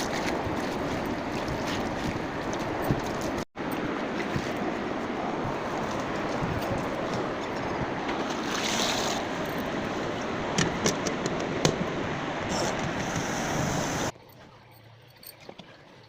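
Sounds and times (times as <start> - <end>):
rushing water: 0.0 - 14.2.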